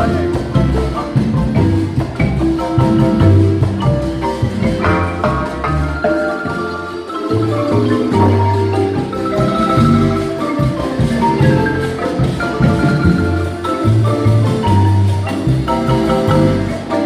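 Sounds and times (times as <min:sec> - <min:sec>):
marimba ensemble playing: 0:00.0 - 0:17.0.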